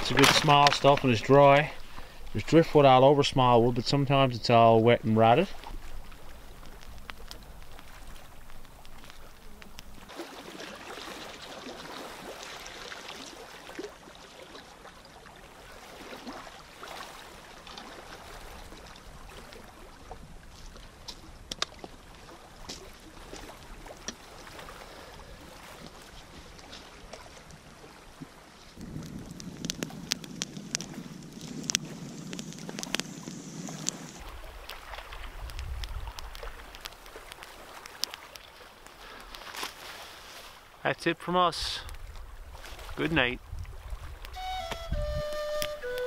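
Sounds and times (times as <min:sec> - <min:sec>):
lake waves lapping on rocks: 0:00.0 - 0:44.4
campfire crackling: 0:00.0 - 0:46.0.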